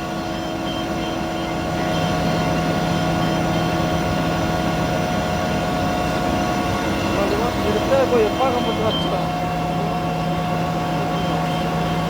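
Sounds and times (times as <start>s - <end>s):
machine tool humming: 0.0s - 12.0s.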